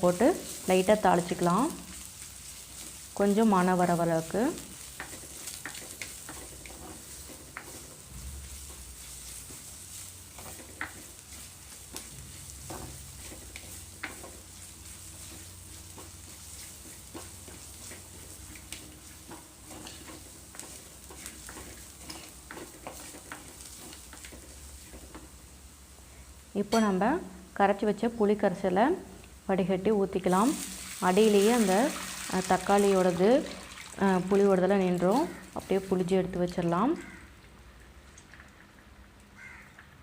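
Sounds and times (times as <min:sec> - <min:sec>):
spice paste sizzling in oil: 0:00.0 - 0:39.7.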